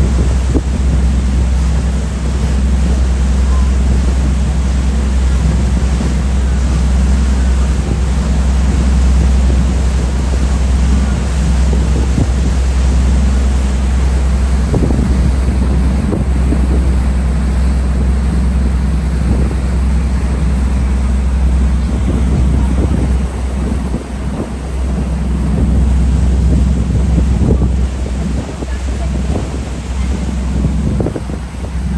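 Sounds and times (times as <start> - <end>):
low machine hum: 0.0 - 31.9
wind noise on microphone: 0.0 - 31.9.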